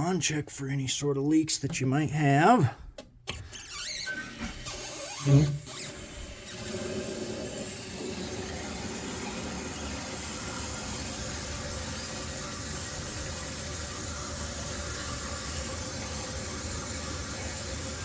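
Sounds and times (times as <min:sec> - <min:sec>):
water hissing into toilet tank: 0:03.5 - 0:18.0.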